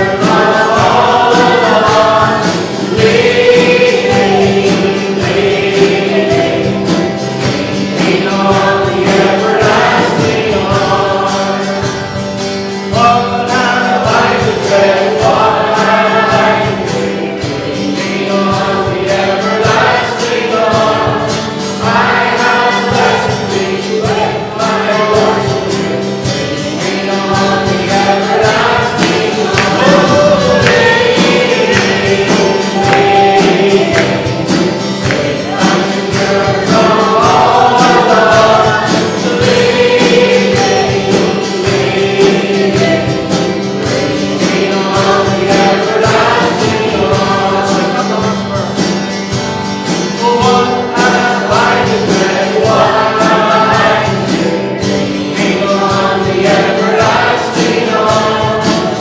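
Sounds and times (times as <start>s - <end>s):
band accompanying with steady beat: 0.0s - 59.0s
congregation singing a hymn: 0.0s - 59.0s.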